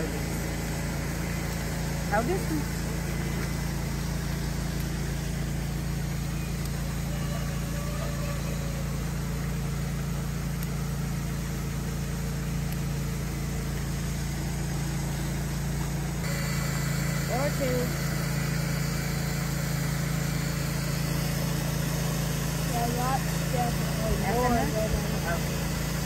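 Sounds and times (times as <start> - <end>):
low engine-like hum: 0.0 - 26.0.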